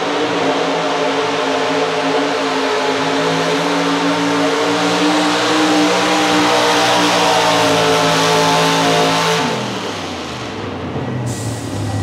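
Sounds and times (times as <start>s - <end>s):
truck engine at full throttle: 0.0s - 12.0s.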